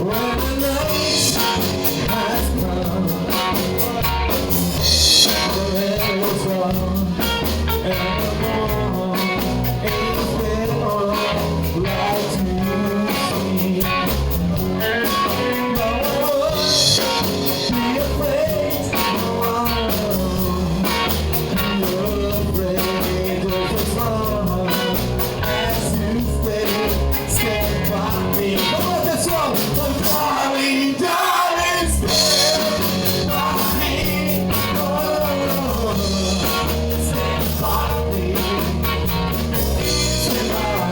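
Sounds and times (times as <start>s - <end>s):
drums keeping a beat: 0.0s - 31.0s, 31.6s - 40.9s
bass: 0.0s - 40.9s
electric guitar: 0.0s - 40.9s
person singing: 0.0s - 40.9s.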